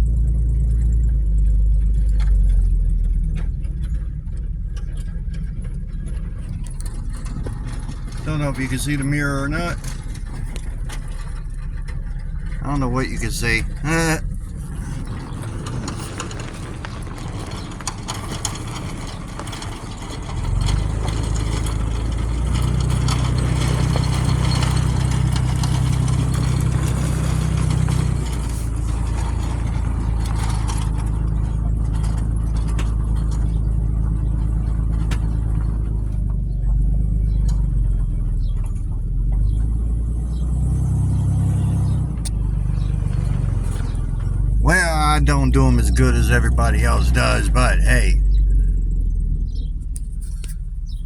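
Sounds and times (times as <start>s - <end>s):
vehicle engine droning: 0.0s - 51.0s.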